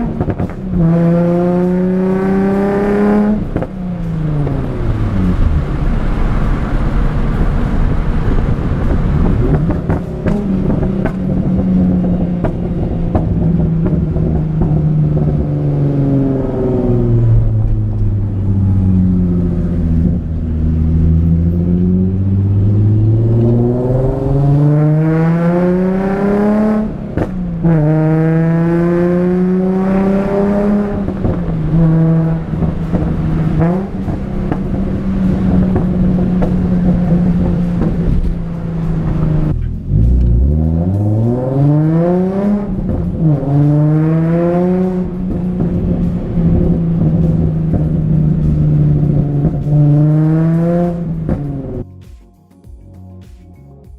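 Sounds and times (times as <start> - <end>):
car engine revving through gears: 0.0 - 51.8.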